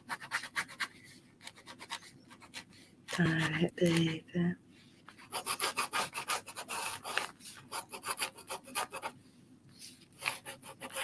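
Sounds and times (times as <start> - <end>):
pen scribbling on paper: 0.0 - 4.2, 5.2 - 9.2, 10.2 - 11.0.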